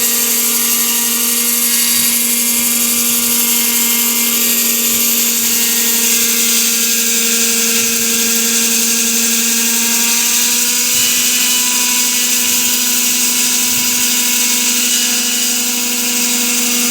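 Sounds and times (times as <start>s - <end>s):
wall saw cutting concrete: 0.0s - 16.9s.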